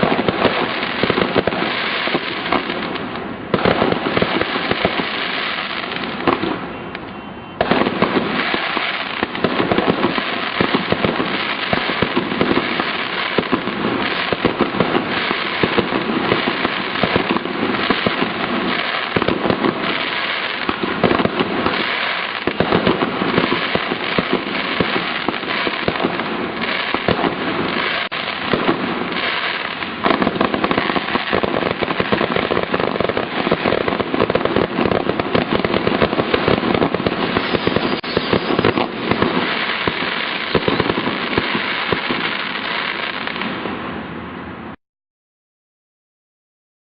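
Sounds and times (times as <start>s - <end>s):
fireworks bangs and crackles: 0.0s - 44.2s.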